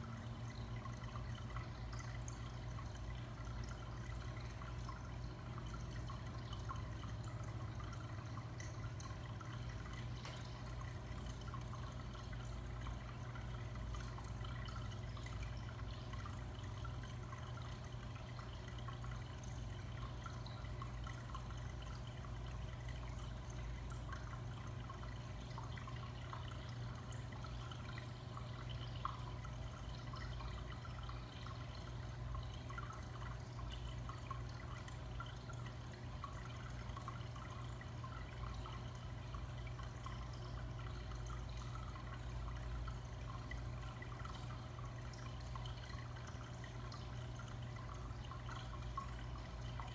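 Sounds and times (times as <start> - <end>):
faint drips: 0.0 - 49.9
low filter hum: 0.0 - 49.9
water trickling: 0.0 - 49.9.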